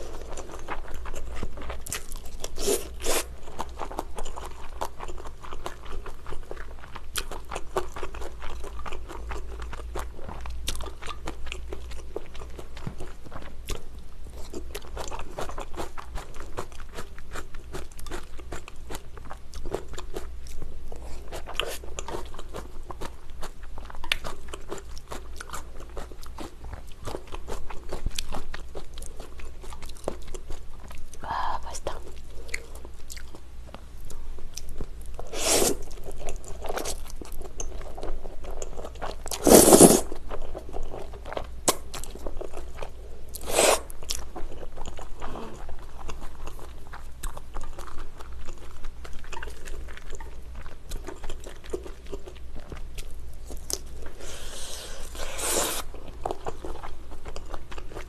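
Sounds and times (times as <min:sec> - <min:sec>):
chewing noodles with mouth clicks: 0:00.0 - 0:31.2, 0:32.1 - 0:58.0.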